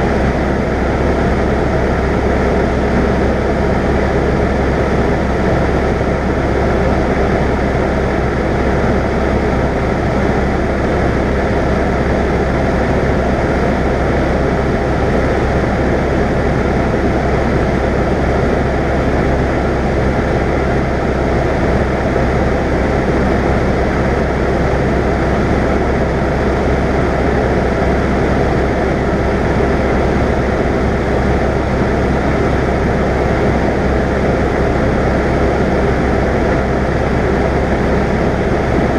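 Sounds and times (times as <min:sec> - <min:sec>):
aircraft engine drone in cabin: 0:00.0 - 0:38.9.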